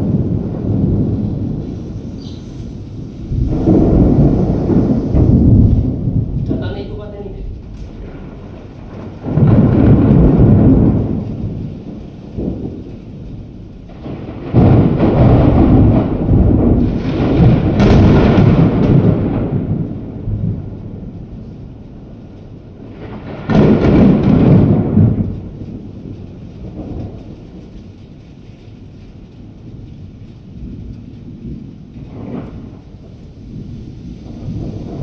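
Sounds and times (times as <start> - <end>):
thunder rolling: 0.0 - 35.0.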